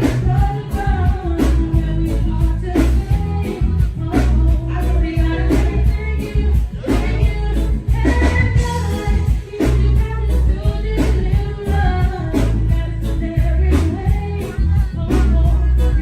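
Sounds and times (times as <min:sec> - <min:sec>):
reggae band with heavy bass: 0:00.0 - 0:16.0
woman singing: 0:00.0 - 0:16.0.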